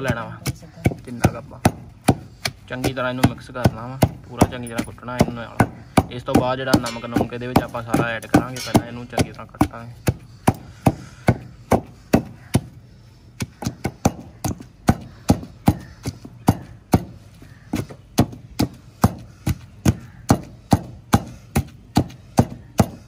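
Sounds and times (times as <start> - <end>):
pestle pounding in stone mortar: 0.0 - 23.0.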